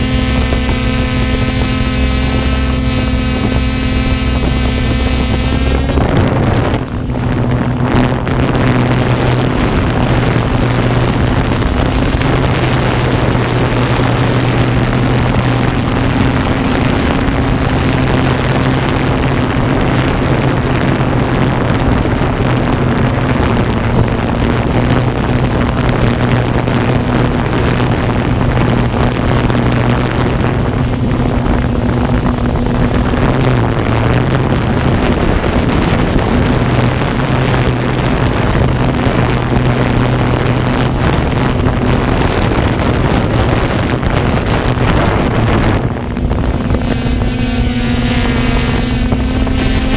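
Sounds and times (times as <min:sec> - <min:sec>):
drone motors humming: 0:00.0 - 0:49.9.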